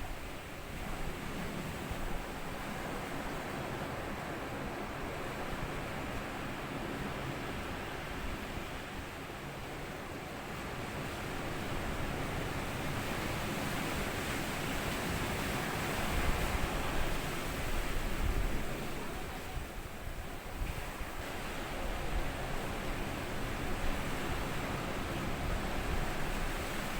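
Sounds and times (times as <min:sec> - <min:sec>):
low rumble of surf: 0:00.0 - 0:26.9.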